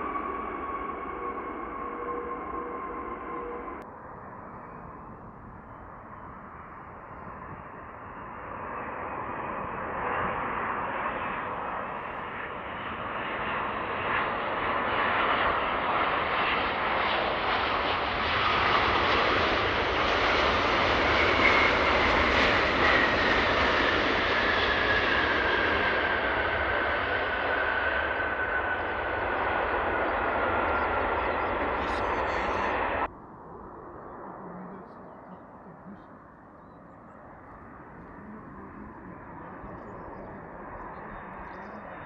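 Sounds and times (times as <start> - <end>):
high engine whine: 0.0 - 6.6, 8.6 - 42.0
jet airliner engine noise: 0.0 - 42.0.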